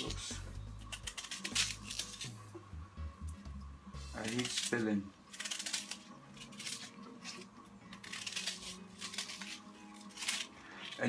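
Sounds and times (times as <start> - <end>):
cabbage leaves tearing: 0.0 - 2.4, 4.2 - 11.0.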